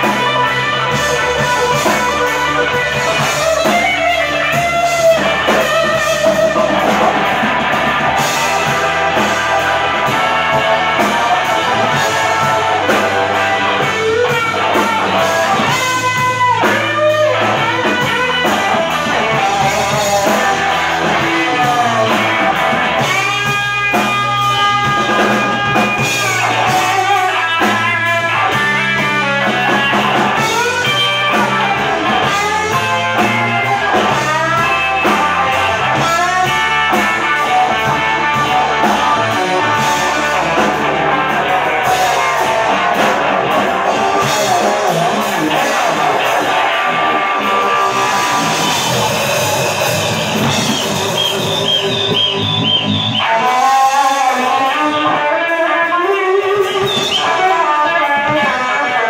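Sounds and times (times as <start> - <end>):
blues band playing: 0.0 - 59.0
drum kit: 0.0 - 59.0
electric guitar bent notes: 0.0 - 59.0.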